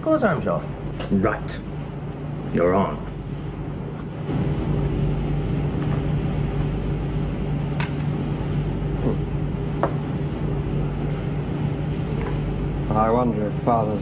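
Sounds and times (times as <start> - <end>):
ship machinery humming: 0.0 - 14.0.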